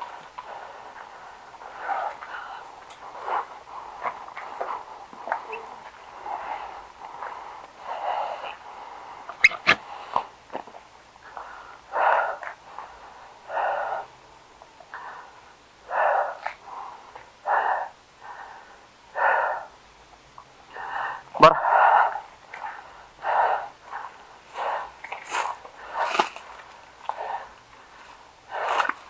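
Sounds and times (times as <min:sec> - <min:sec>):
heavy breathing close to microphone: 0:00.0 - 0:19.8, 0:20.6 - 0:29.0.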